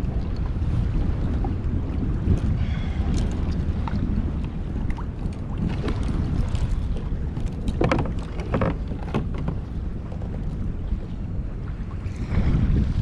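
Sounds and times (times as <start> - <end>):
water sloshing against a kayak: 0.0 - 13.0
water splashes: 0.0 - 13.0
wind rumbling on microphone: 0.0 - 13.0.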